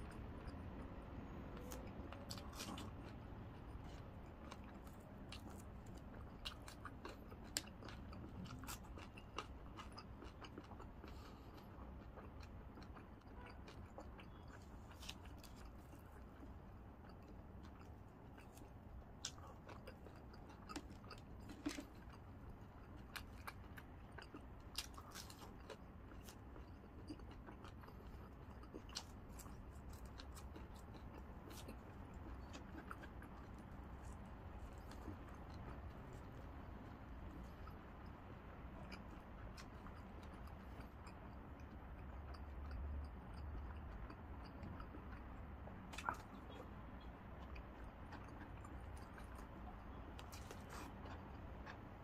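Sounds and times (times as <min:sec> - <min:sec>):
chewing crispy food: 0:00.0 - 0:52.0
faint low hum: 0:00.0 - 0:52.0.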